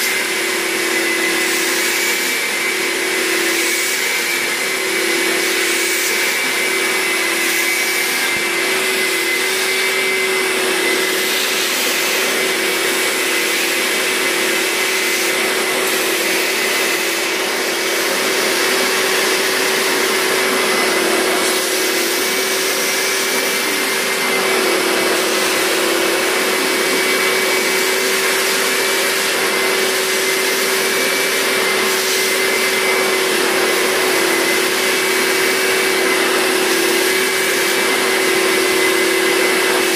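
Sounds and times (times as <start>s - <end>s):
wet vacuum suction: 0.0s - 39.9s.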